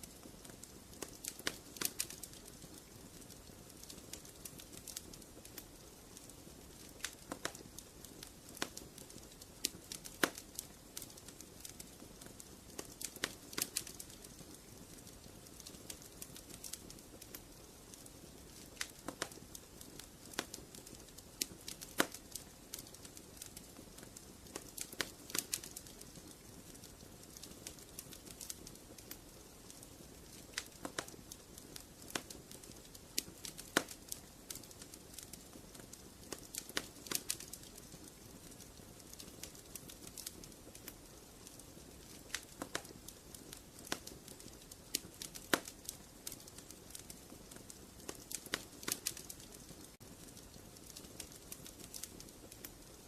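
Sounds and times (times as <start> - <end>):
soft steady hiss: 0.0 - 53.0
wood fire crackling: 0.0 - 53.0.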